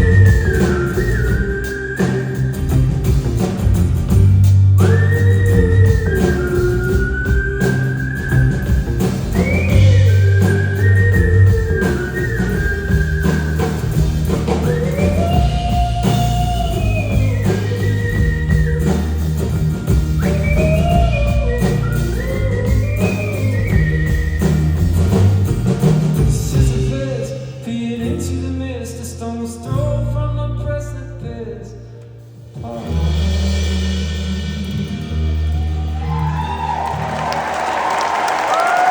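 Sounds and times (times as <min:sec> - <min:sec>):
live rock band playing: 0:00.0 - 0:28.7, 0:32.1 - 0:38.9.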